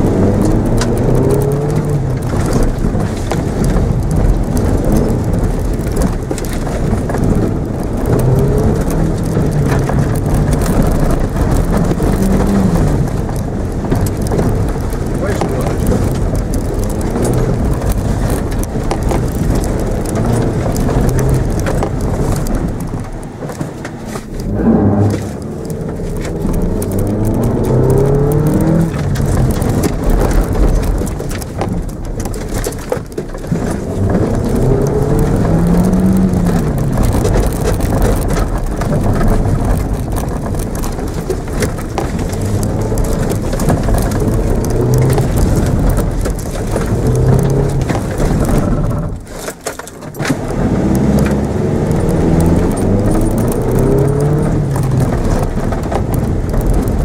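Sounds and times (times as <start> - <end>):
car engine revving: 0.0 - 49.4, 50.1 - 57.0.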